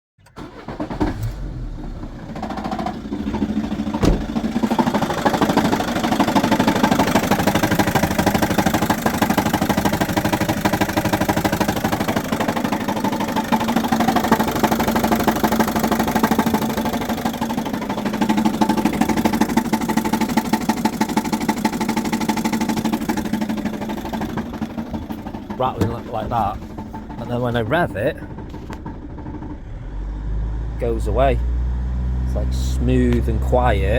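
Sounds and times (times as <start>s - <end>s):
diesel engine idling with knocking: 1.6s - 33.9s.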